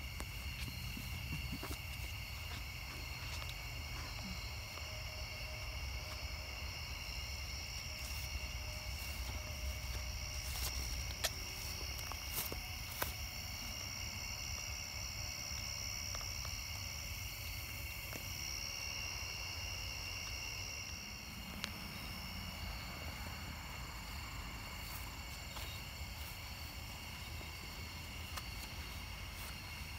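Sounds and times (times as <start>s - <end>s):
night insects trilling: 0.0s - 29.9s.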